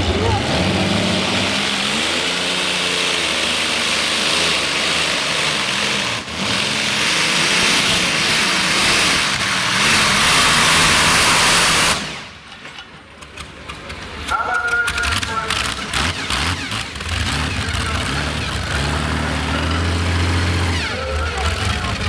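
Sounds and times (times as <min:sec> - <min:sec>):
tractor engines at full throttle: 0:00.0 - 0:22.0.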